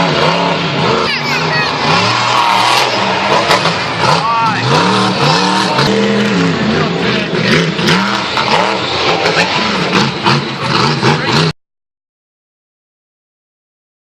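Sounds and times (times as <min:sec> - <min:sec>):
monster truck engine revving: 0:00.0 - 0:11.6.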